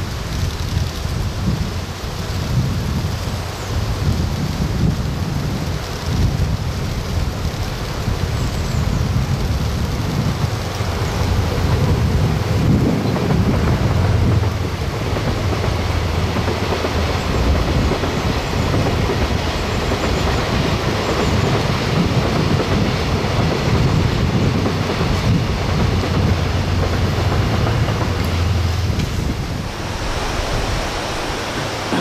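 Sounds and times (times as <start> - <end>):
diesel train rumbling: 0.0 - 32.0.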